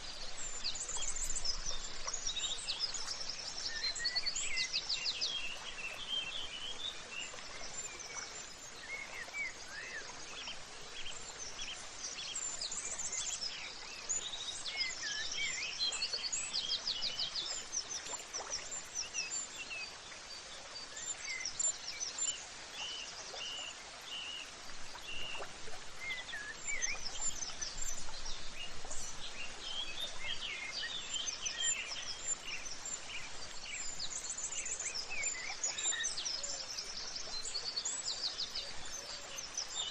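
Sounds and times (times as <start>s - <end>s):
soft steady background hiss: 0.0s - 39.9s.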